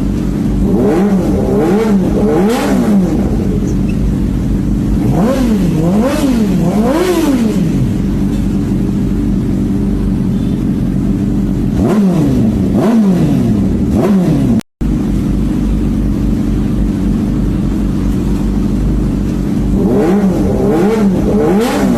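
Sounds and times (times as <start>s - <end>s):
motorcycle idling with throttle blips: 0.0s - 21.9s.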